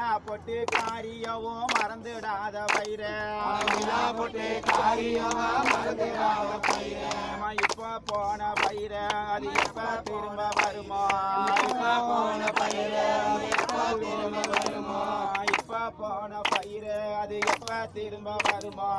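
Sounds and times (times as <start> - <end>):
group singing a chant: 0.0 - 18.9.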